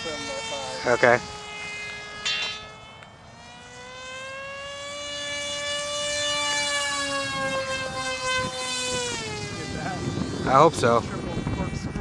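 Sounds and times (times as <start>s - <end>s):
electric propeller motor whining: 0.0s - 12.0s.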